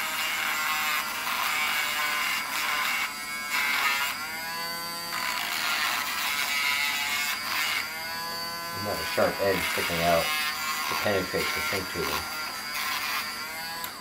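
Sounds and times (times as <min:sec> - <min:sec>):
rotary tool high whine: 0:00.0 - 0:14.0.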